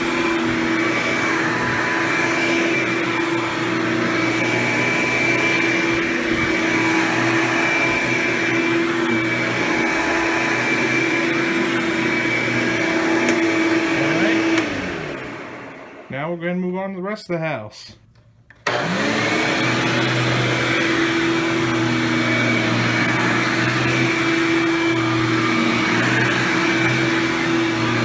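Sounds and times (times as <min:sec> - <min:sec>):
vacuum cleaner running: 0:00.0 - 0:16.2, 0:18.6 - 0:28.0.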